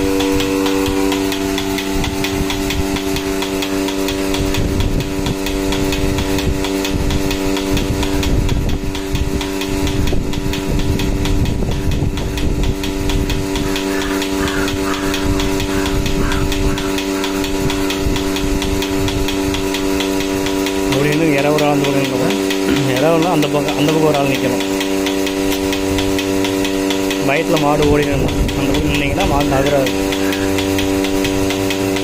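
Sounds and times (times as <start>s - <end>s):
regular ticking: 0.0s - 32.0s
vacuum pump humming: 0.0s - 32.0s.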